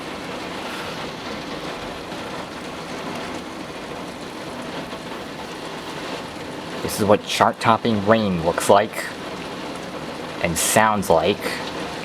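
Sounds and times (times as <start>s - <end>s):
torrential rain pouring: 0.0s - 12.0s
water overflowing gutters: 0.0s - 12.0s.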